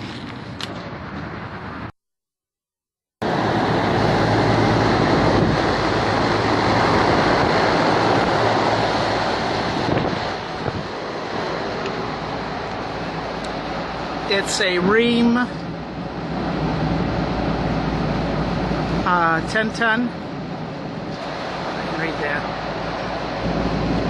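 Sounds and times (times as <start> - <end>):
rushing air: 3.2 - 24.0.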